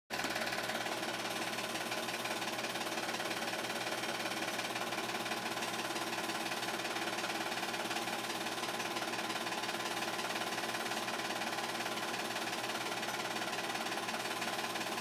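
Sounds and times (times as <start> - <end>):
film projector clattering: 0.1 - 15.0.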